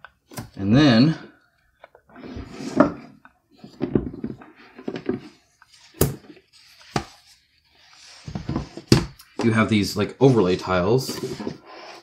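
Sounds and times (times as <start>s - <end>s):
cardboard boards scraping: 2.2s - 12.0s.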